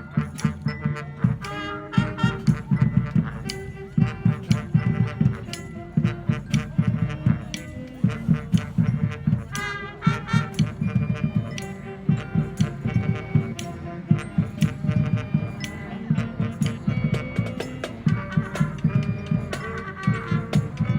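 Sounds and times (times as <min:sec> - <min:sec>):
brass sustained notes: 0:00.0 - 0:20.9
driving drum beat: 0:00.0 - 0:20.9.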